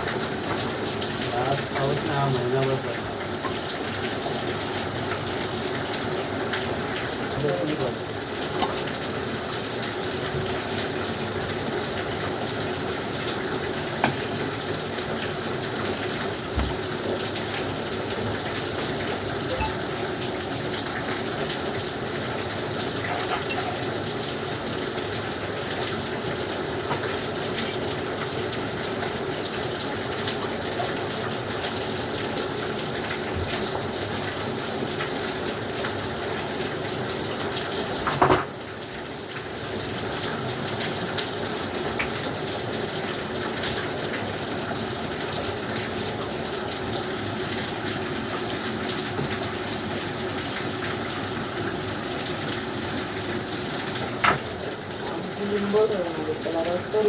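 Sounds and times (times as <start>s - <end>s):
falling water rushing: 0.0s - 57.0s.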